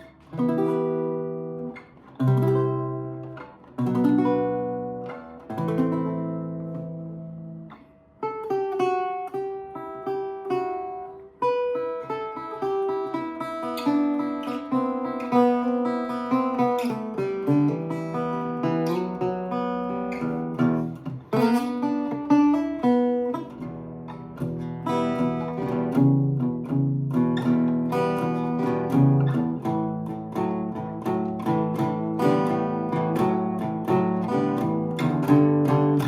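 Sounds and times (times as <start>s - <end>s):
acoustic guitar picking and strumming: 0.0s - 36.0s.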